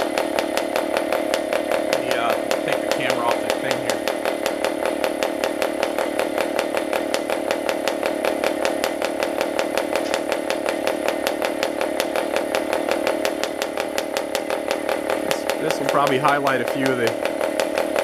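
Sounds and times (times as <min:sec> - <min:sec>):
model engine buzzing: 0:00.0 - 0:18.0.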